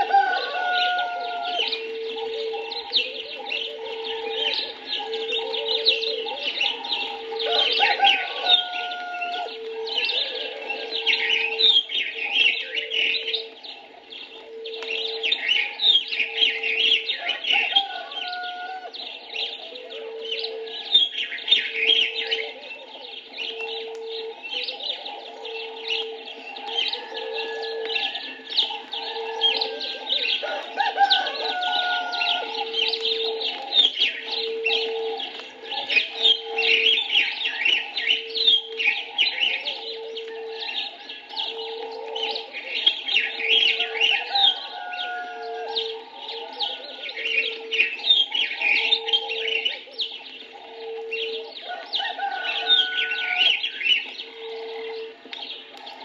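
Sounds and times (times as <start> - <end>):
bird repeating low note: 0.0 - 56.0
birds chirping and trilling: 0.0 - 56.0.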